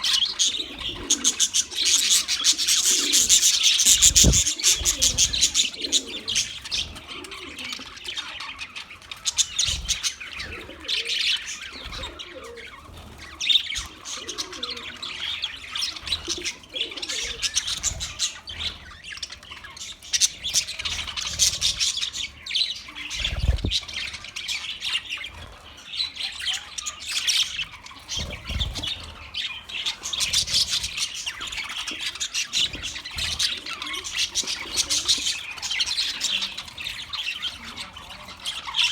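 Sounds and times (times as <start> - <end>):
bird squawks: 0.0 - 38.9
budgerigars chattering and chirping: 0.0 - 38.9.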